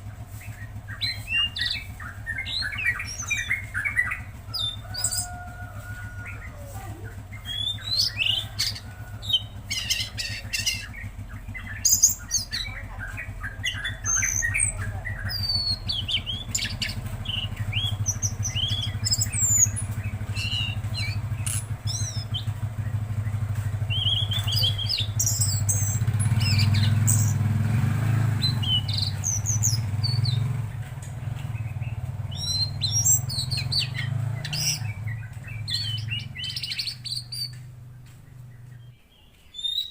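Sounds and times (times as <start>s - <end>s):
low engine-like drone: 0.0s - 38.9s
songbird singing: 0.0s - 39.9s.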